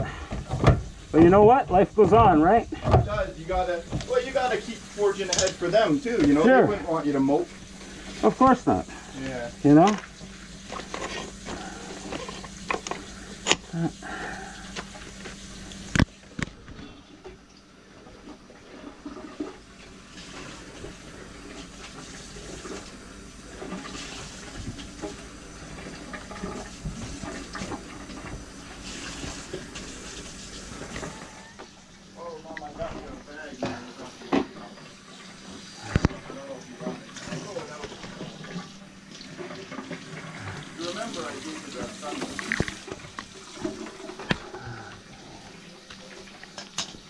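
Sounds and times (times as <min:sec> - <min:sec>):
water running through drain: 0:00.0 - 0:47.0.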